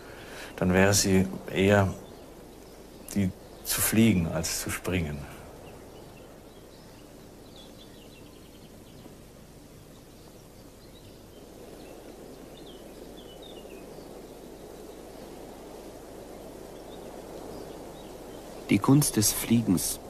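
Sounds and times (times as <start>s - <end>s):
faint bird chirps: 0.0s - 20.0s
low background rush: 0.0s - 20.0s.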